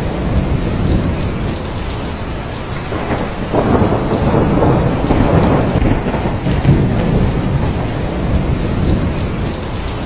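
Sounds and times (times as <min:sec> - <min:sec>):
heavy rain: 0:00.0 - 0:10.0
thunder rumble: 0:00.0 - 0:10.0.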